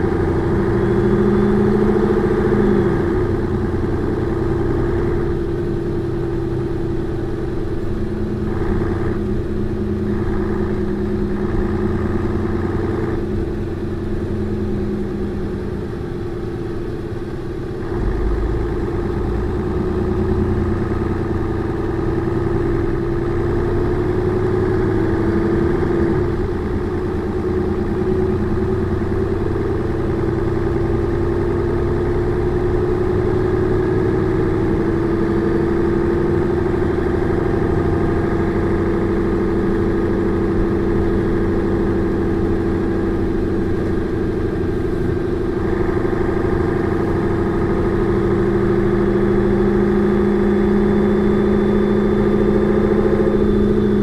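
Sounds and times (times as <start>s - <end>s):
bus diesel engine running: 0.0s - 54.0s
low hum: 0.0s - 54.0s
steady engine whine: 0.0s - 54.0s.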